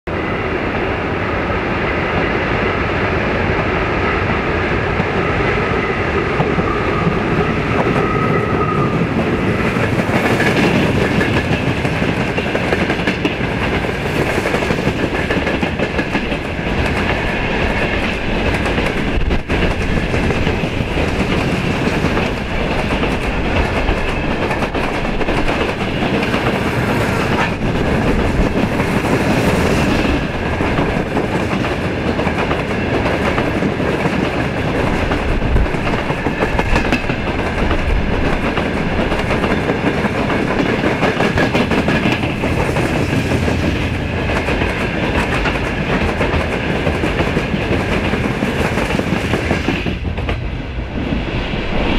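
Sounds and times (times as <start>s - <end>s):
train wheels clattering: 6.3s - 51.3s.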